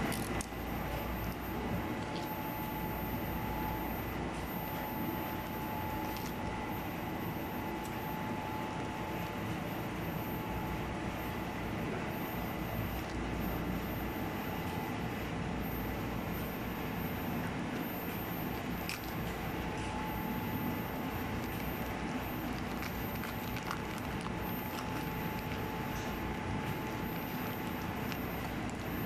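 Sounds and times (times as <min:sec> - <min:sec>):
factory machinery humming: 0:00.0 - 0:29.0.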